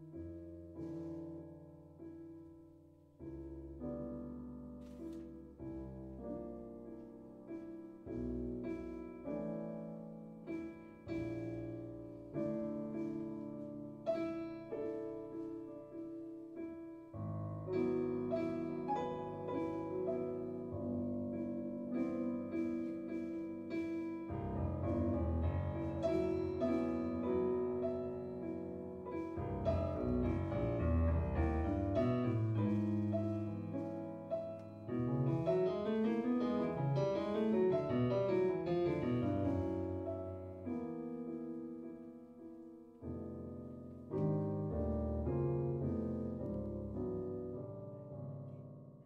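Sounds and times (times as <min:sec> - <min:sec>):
jazz piano playing: 0:00.0 - 0:49.0.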